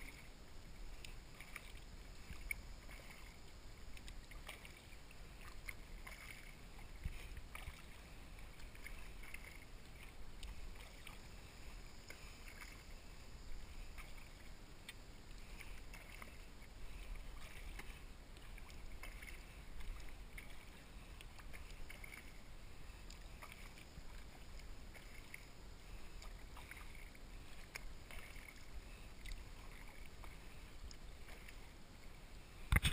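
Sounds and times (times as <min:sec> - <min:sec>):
faint splashes and drips: 0:00.0 - 0:32.9
kayak paddle dipping in water: 0:00.0 - 0:32.9.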